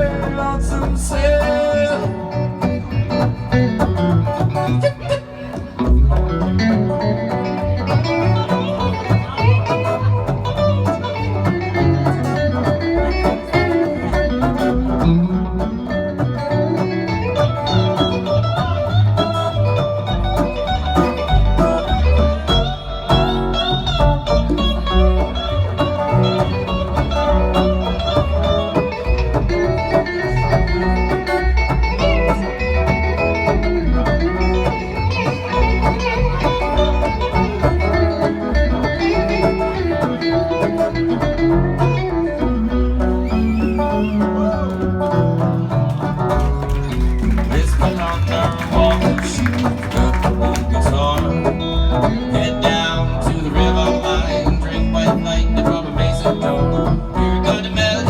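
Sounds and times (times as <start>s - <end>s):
bluegrass plucked string instruments: 0.0s - 58.0s.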